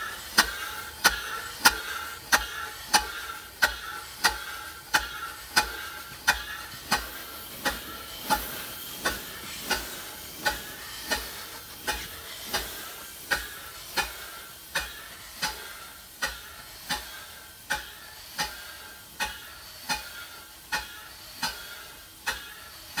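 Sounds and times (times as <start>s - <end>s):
air hissing: 0.0s - 23.0s
steam engine clicking: 0.0s - 23.0s.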